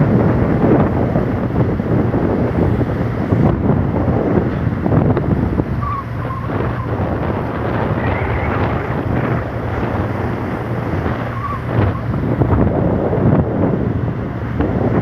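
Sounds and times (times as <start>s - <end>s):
ship engines humming: 0.0s - 15.0s
wind buffeting microphone: 0.0s - 15.0s.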